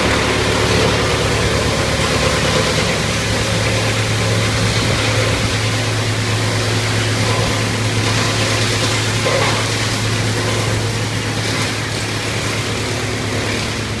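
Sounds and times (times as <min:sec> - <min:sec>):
wood chipper running: 0:00.0 - 0:14.0.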